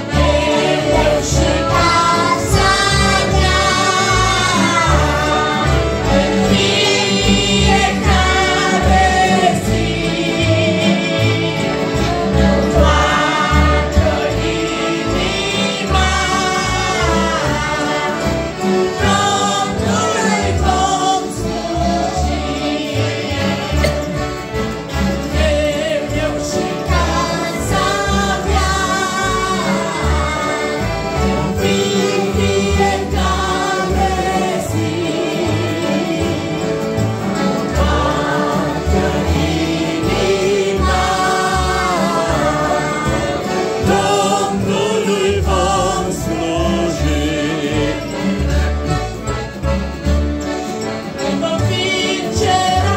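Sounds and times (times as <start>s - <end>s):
group of voices singing a hymn: 0.0s - 49.8s, 50.4s - 52.9s
guitars: 0.0s - 52.9s
piano accordions: 0.0s - 52.9s.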